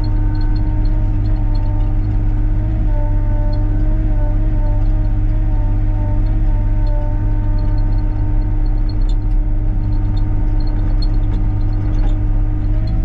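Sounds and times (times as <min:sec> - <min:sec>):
diesel engine rumbling: 0:00.0 - 0:13.0
steady whine: 0:00.0 - 0:13.0.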